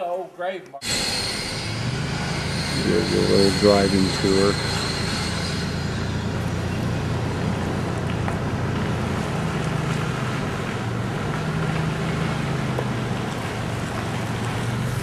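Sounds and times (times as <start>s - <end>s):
engine hum: 0.8s - 15.0s
road noise: 0.8s - 15.0s.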